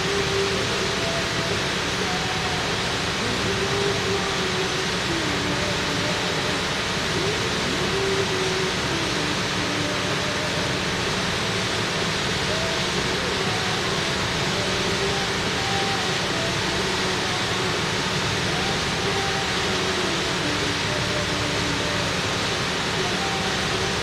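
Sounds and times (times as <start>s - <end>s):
faint voice: 0.0s - 24.0s
steady rushing noise: 0.0s - 24.0s.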